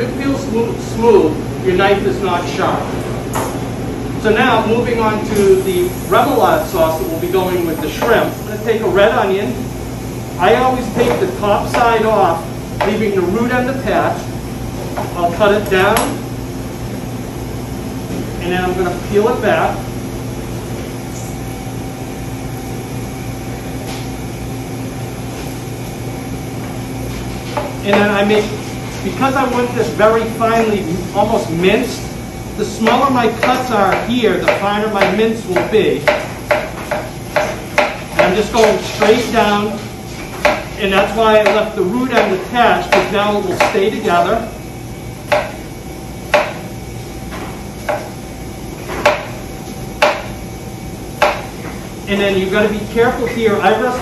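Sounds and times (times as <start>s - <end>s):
kitchen equipment humming: 0.0s - 54.0s.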